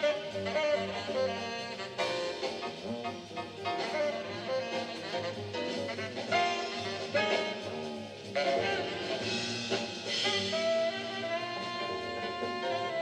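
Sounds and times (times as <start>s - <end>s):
drums: 0.0s - 13.0s
piano: 0.0s - 13.0s
tenor saxophone lead: 0.0s - 13.0s.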